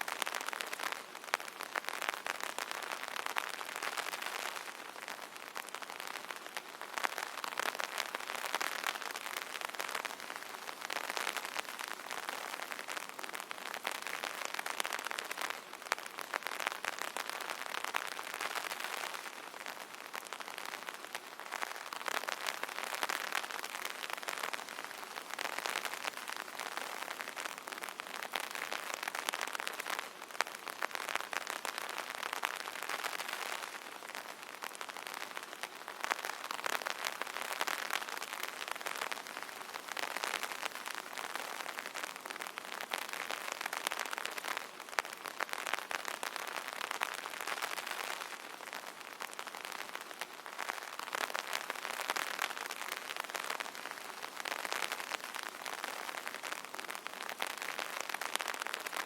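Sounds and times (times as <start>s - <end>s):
rain pattering on umbrella: 0.0s - 59.0s.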